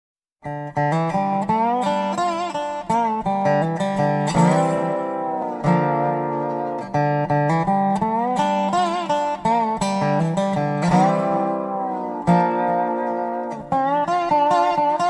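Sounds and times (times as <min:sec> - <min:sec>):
country-rock guitar playing: 0:00.4 - 0:15.0.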